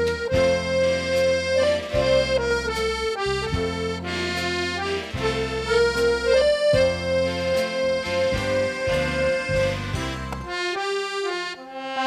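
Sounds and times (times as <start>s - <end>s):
accordion bass chords: 0.0s - 12.0s
accordion melody: 0.0s - 12.0s.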